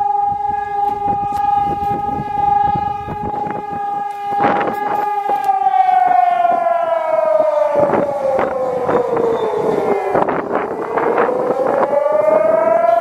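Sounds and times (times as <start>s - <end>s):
air raid siren wailing: 0.0s - 13.0s
gusts of noise: 0.0s - 13.0s.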